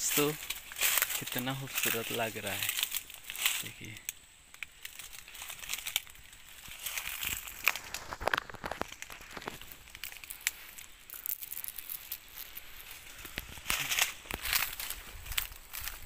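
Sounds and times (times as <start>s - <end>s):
leaves rustling and crackling: 0.0s - 16.0s.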